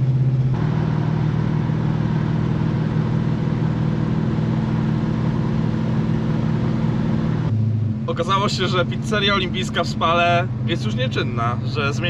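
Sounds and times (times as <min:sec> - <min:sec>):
car engine running steadily: 0:00.0 - 0:12.0
road noise: 0:00.0 - 0:12.0.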